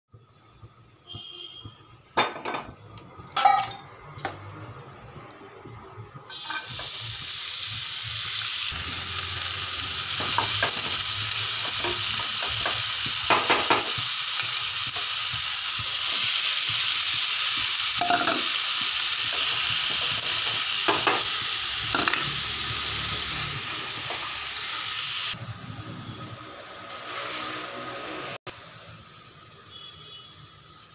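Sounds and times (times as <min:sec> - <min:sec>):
onions sizzling in hot oil: 0:00.2 - 0:30.9.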